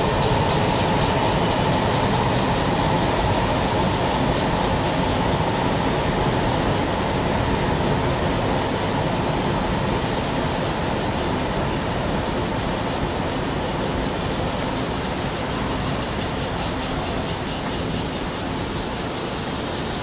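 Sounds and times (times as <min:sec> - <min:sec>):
train rumbling and clattering past: 0:00.0 - 0:20.0.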